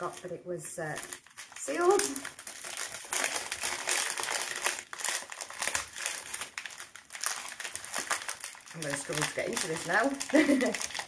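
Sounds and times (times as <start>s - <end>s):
paper packet crinkling: 0.0s - 11.0s.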